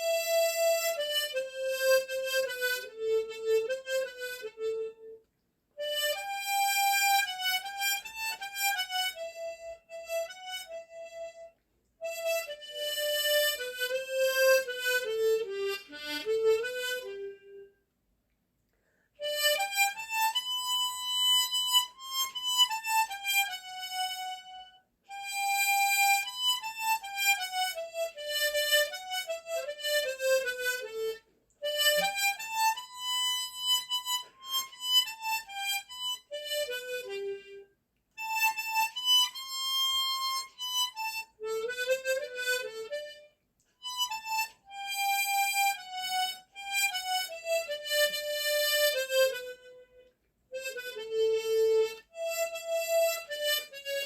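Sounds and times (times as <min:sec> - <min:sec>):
tremolo harmonica melody: 0:00.0 - 0:17.9, 0:18.7 - 0:54.0.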